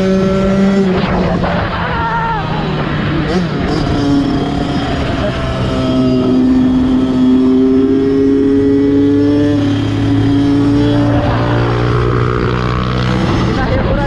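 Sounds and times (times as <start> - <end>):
dirt bike engine accelerating: 0.0 - 14.0.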